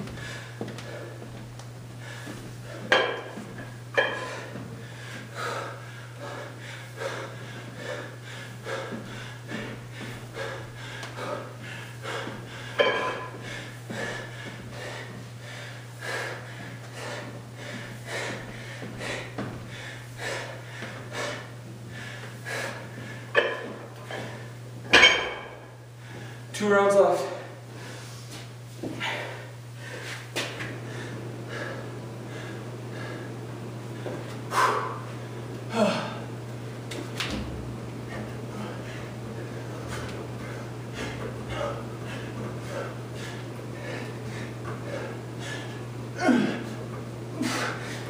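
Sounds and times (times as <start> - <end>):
steady low hum: 0.0 - 48.0
man breathing hard: 0.1 - 1.4, 4.0 - 26.5, 27.3 - 33.4, 34.0 - 36.3, 38.1 - 48.0.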